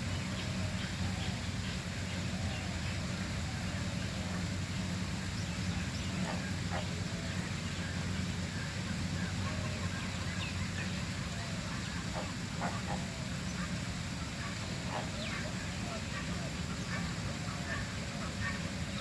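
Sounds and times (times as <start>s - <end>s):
birds calling: 0.0s - 19.0s
steady low hum: 0.0s - 19.0s.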